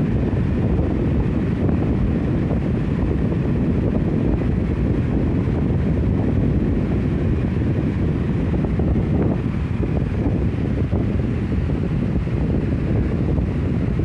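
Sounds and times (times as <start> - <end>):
electric fan wind noise: 0.0 - 14.0.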